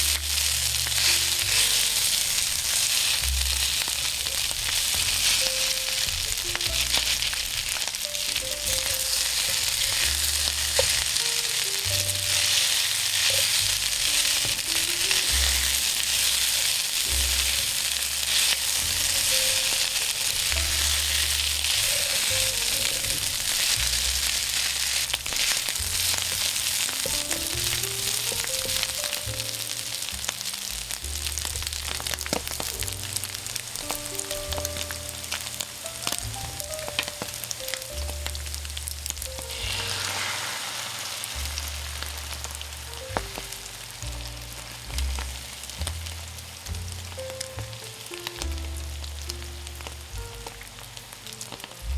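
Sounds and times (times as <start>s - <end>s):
quiet background music: 0.0s - 51.9s
rice sizzling in hot oil: 0.0s - 51.9s.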